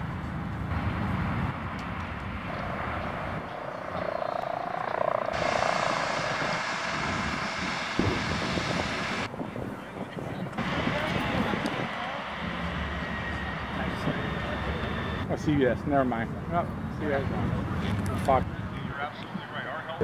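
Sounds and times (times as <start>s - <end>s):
distant aircraft engine droning: 0.0s - 20.0s
steady outdoor hiss: 0.0s - 20.0s.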